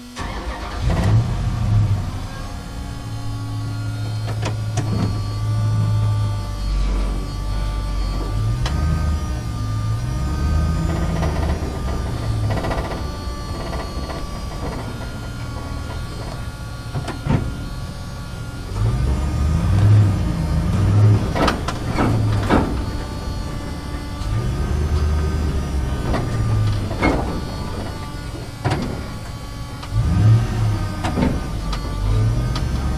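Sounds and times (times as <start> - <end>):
faint steady whine: 0.0 - 32.9
truck engine rumble: 0.0 - 32.9.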